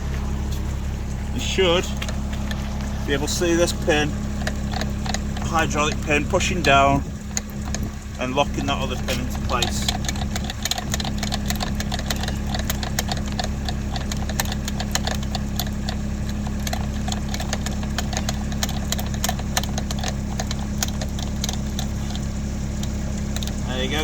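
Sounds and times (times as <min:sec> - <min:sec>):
diesel engine idling: 0:00.0 - 0:24.0
rapid irregular clicking: 0:00.0 - 0:24.0.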